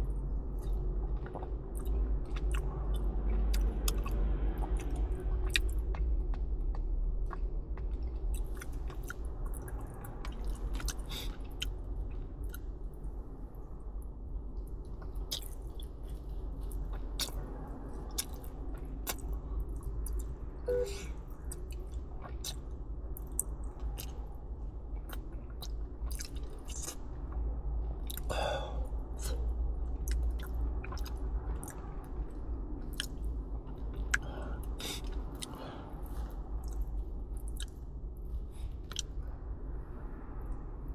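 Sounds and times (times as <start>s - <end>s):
wet chewing and mouth clicks: 0.6s - 6.1s, 6.7s - 12.7s, 14.6s - 20.4s, 21.5s - 24.4s, 25.0s - 27.3s, 27.9s - 28.4s, 29.1s - 39.2s.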